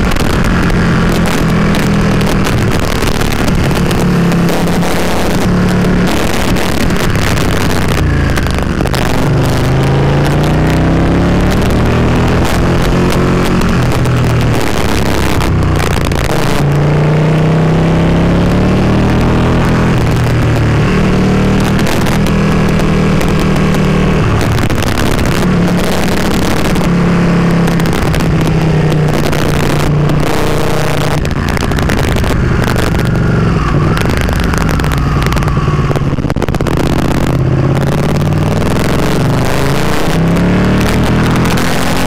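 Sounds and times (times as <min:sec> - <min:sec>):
motorcycle engine revving: 0:00.0 - 0:42.0
wind rushing over microphone: 0:00.0 - 0:42.0.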